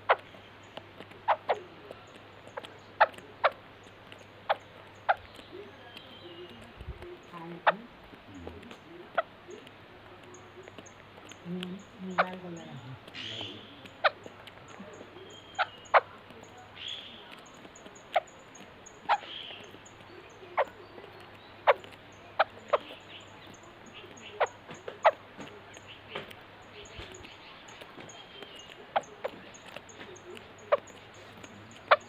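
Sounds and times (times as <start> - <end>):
bird call notes: 0.0 - 32.0
faint high-pitched chirping: 0.0 - 32.0.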